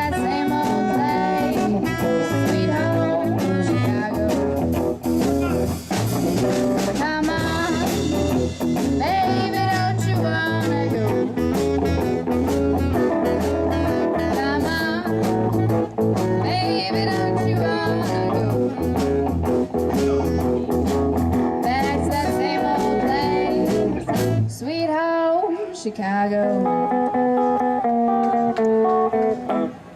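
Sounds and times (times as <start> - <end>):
drums steady beat: 0.0 - 24.6
bass: 0.0 - 24.8
guitar: 0.0 - 29.9.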